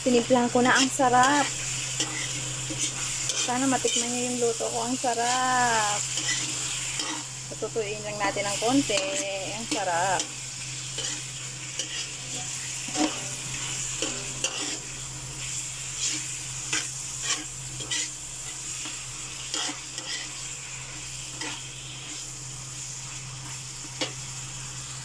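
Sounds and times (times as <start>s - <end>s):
pork sizzling in oil: 0.0s - 25.0s
metal spoon scraping a pan: 0.1s - 20.5s, 21.3s - 22.3s, 23.2s - 24.3s.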